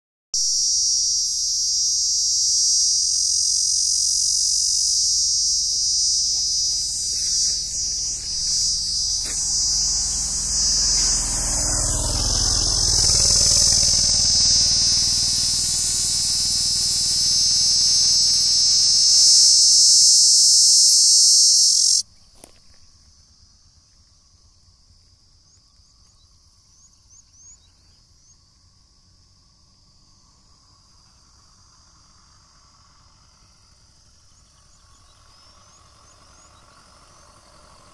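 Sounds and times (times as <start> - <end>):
cicada singing: 0.4 - 37.9
faint insect call: 0.4 - 37.9.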